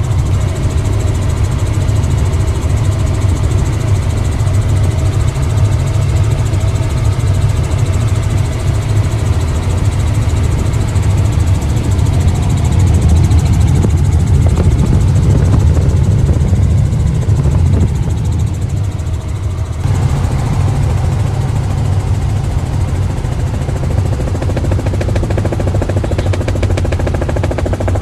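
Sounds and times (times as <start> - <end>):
helicopter engine and rotor: 0.0 - 28.0.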